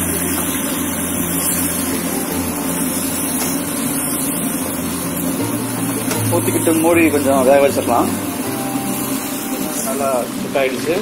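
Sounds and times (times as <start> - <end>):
curry sizzling and simmering: 0.0 - 11.0.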